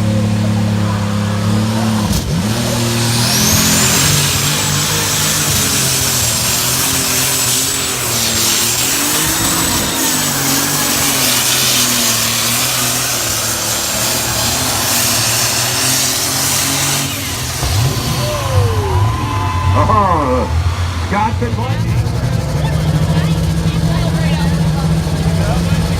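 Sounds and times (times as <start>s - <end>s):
engine running at high revs: 0.0s - 25.9s
second engine revving: 0.0s - 25.9s.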